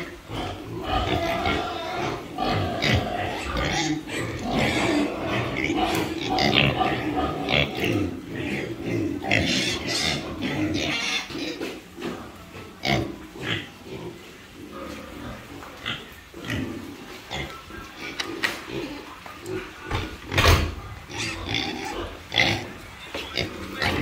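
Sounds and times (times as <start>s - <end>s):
piglets grunting: 0.0s - 24.0s.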